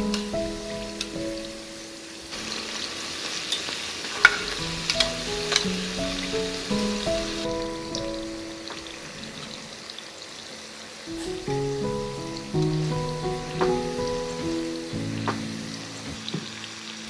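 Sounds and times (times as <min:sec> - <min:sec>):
slow background music: 0:00.0 - 0:02.6, 0:04.3 - 0:09.8, 0:11.1 - 0:17.0
pies deep-frying in hot oil: 0:00.0 - 0:17.0.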